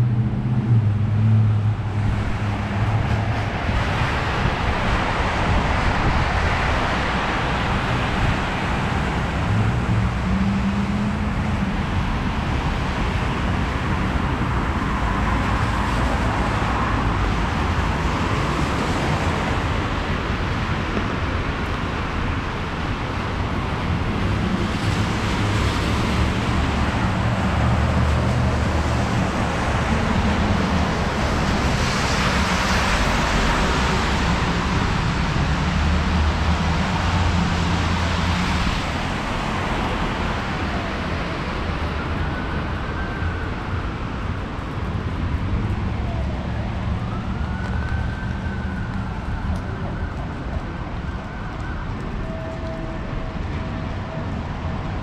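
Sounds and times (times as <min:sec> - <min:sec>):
low rumble of engines: 0:00.0 - 0:55.0.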